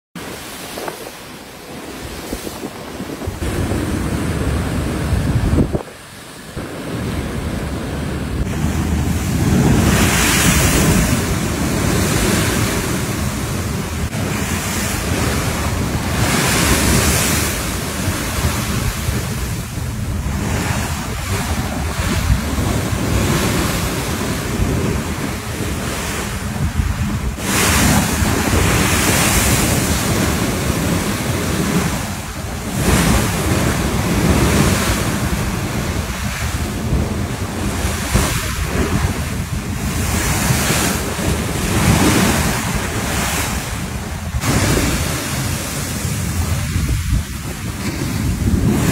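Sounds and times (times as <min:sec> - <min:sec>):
waves rushing past ship hull: 0:00.2 - 0:48.9
wind buffeting microphone: 0:00.2 - 0:48.9.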